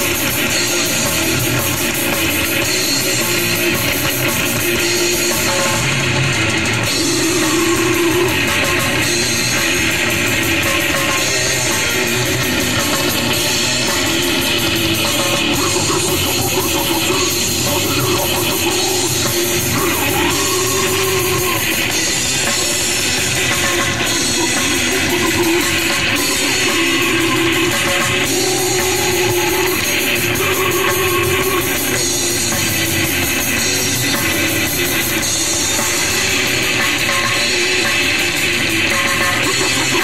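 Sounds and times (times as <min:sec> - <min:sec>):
heavy metal band playing live: 0:00.0 - 0:40.0.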